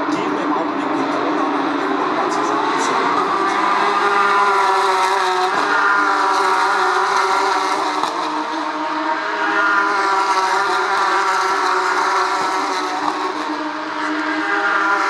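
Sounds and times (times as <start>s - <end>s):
race car engines running steadily: 0.0s - 15.0s.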